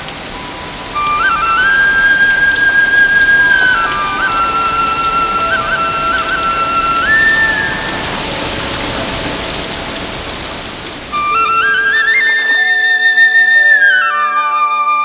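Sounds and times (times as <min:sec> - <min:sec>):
slow flute melody: 0:00.0 - 0:09.5, 0:11.1 - 0:15.0
rain hissing on water: 0:00.0 - 0:14.2.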